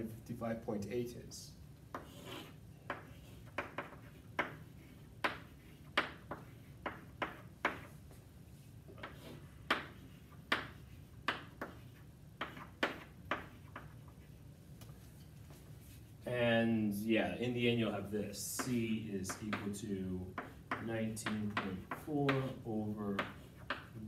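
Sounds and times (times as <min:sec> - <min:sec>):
low room hum: 0:00.0 - 0:24.0
chalk tapping and scraping: 0:01.9 - 0:16.1, 0:18.4 - 0:24.0.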